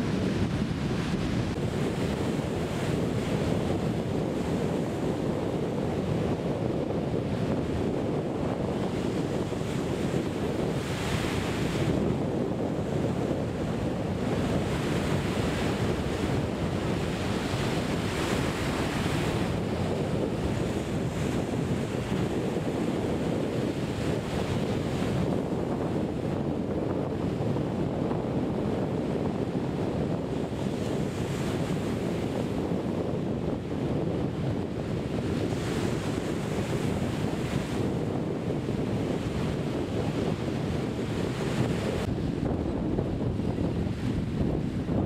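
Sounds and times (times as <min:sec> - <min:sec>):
surf waves breaking on beach: 0:00.0 - 0:45.0
wind rumble on microphone: 0:00.0 - 0:45.0.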